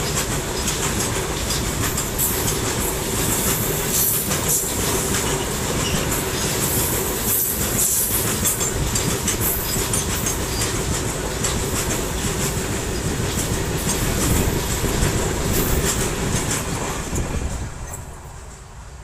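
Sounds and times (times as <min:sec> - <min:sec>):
wheels clattering over rail joints: 0:00.0 - 0:18.5.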